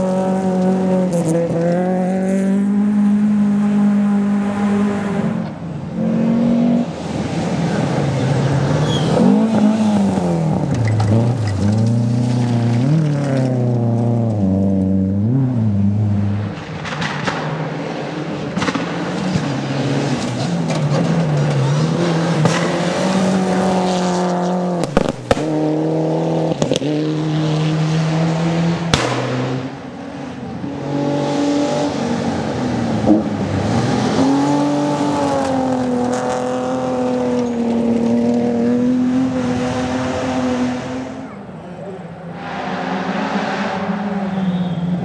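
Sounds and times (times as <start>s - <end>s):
rally cars passing: 0.0s - 45.0s.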